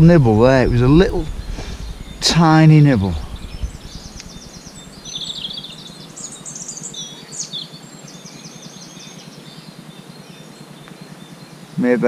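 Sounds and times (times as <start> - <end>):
songbirds singing: 0.0 - 12.0
steady low hum: 0.0 - 12.0.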